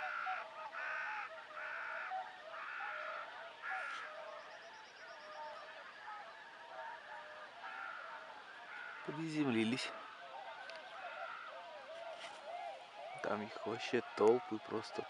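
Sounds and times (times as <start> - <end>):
geese and swans honking: 0.0 - 15.0.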